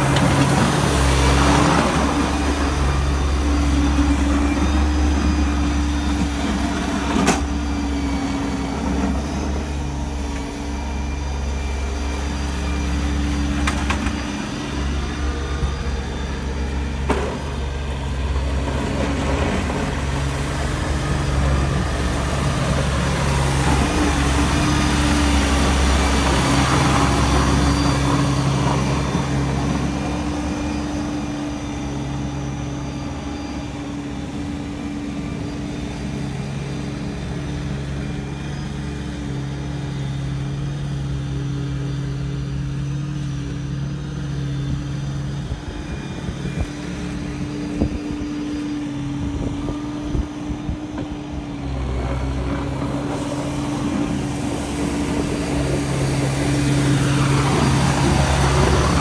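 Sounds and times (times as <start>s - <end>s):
plow pushing slush: 0.0s - 59.0s
tractor diesel engine running: 0.0s - 59.0s.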